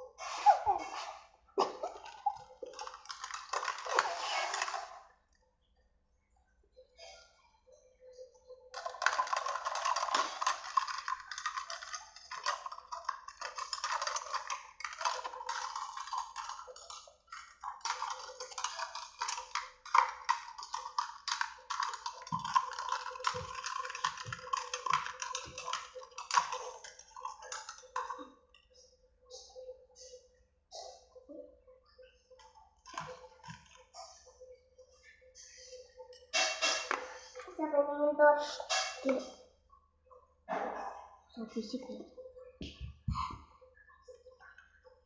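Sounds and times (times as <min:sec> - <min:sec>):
eating ramen: 0:00.0 - 0:05.2, 0:08.1 - 0:39.6.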